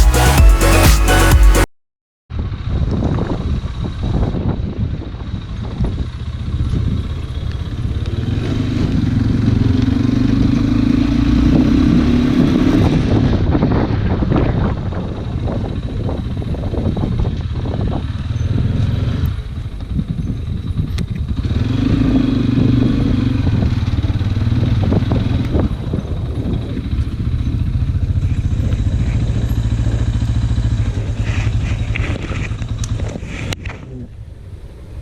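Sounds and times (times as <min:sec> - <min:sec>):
motorcycle engine running: 0:02.3 - 0:35.0.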